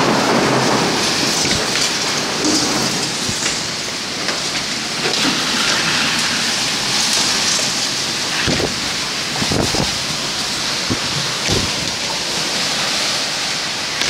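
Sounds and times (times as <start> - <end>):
heavy rain pelting: 0.0 - 14.0
strong storm wind: 0.0 - 14.0.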